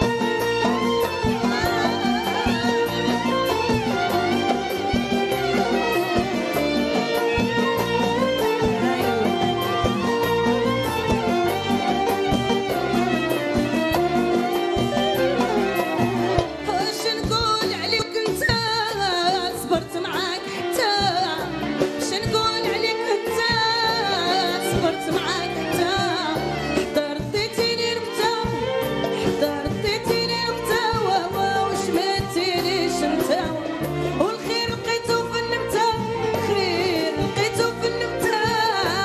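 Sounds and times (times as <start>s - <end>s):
band playing popular song: 0.0s - 39.0s.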